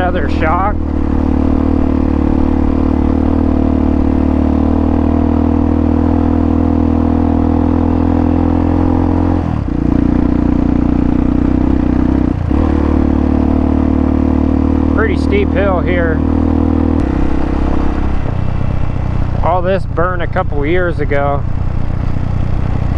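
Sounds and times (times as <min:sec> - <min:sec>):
motorcycle engine under load: 0:00.0 - 0:22.9.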